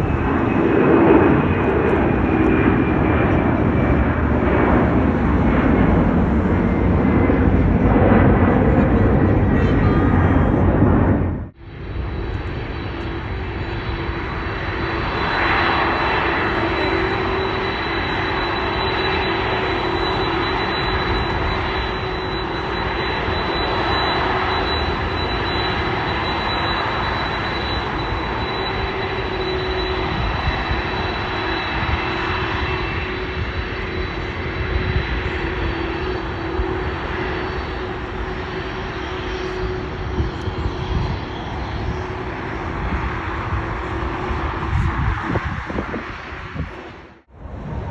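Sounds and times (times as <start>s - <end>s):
jet airliner passing: 0.0s - 47.9s.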